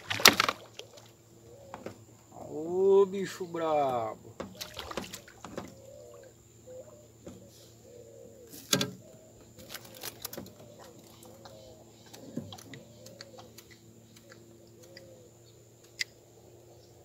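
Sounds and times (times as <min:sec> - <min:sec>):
dove cooing: 0:00.0 - 0:03.0, 0:03.8 - 0:17.0.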